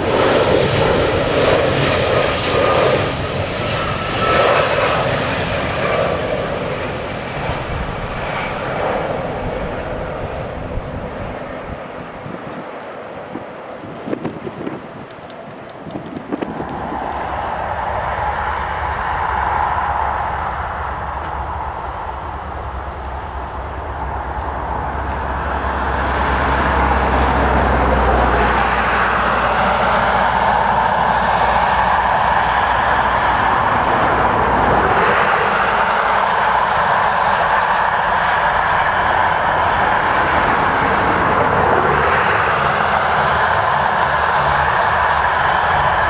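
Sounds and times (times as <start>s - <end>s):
jet engine roar: 0.0s - 46.0s.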